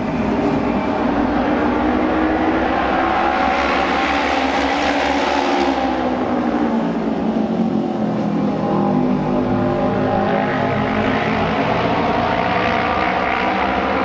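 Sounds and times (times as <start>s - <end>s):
racing motorcycle engines: 0.0s - 14.0s.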